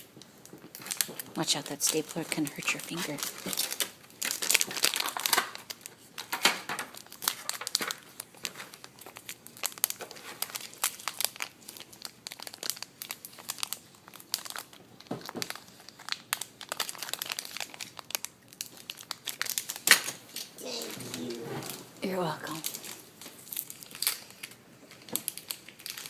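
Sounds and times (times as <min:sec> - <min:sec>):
cardboard packaging crinkling: 0:00.0 - 0:26.0
packaging tearing: 0:02.9 - 0:21.9, 0:22.5 - 0:26.0.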